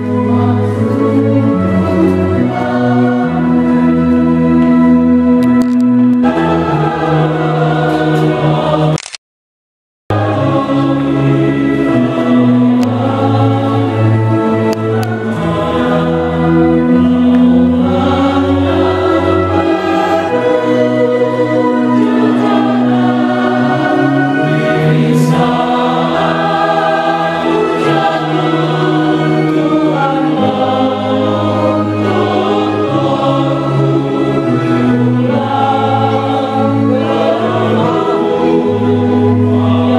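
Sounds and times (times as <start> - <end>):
choir singing a hymn: 0.0 - 9.0, 10.1 - 39.9.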